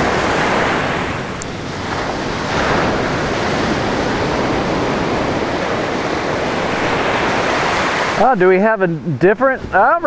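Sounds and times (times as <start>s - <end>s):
waves washing in: 0.0s - 10.0s
wind buffeting microphone: 0.0s - 10.0s.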